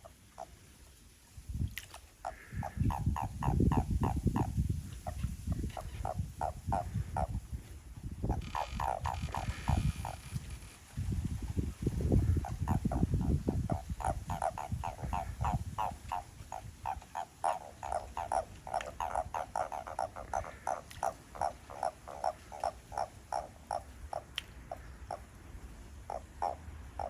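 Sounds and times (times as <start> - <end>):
frogs croaking: 0.0 - 0.8, 2.2 - 27.0.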